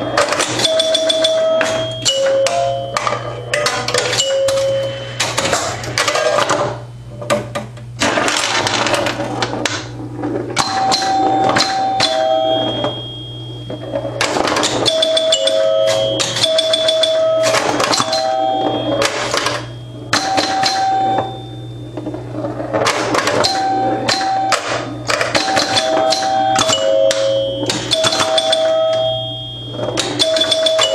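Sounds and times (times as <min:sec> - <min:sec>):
pinball score chimes: 0:00.0 - 0:06.8, 0:08.0 - 0:30.9
steady low hum: 0:00.0 - 0:30.8.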